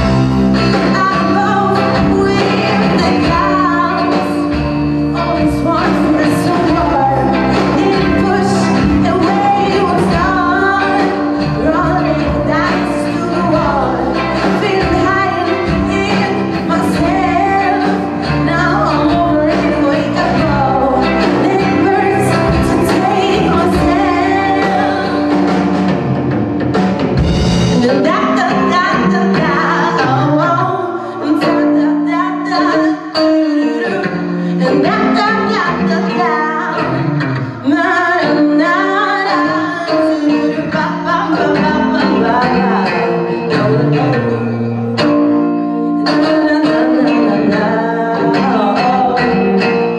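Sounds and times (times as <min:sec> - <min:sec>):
woman singing lead vocal: 0:00.0 - 0:25.8, 0:27.7 - 0:49.9
bass guitar: 0:00.0 - 0:49.9
drum kit: 0:00.0 - 0:49.9
electric guitars: 0:00.0 - 0:49.9.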